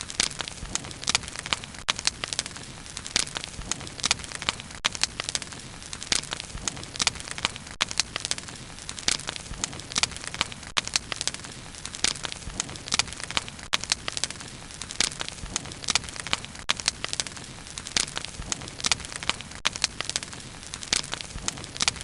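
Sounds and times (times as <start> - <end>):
wood crackling and popping: 0.0 - 22.0.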